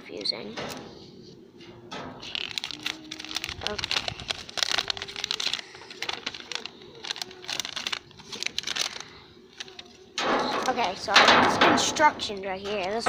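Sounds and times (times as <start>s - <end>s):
plastic packaging crinkling: 2.2s - 13.0s.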